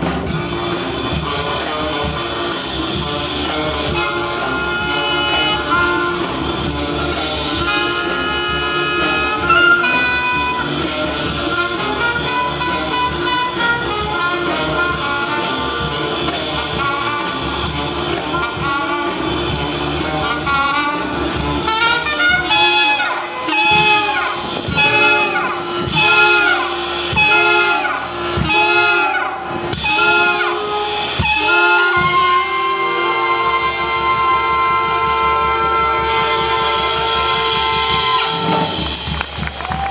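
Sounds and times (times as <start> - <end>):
horns playing melody: 0.0 - 39.9
jazz band playing: 0.0 - 39.9.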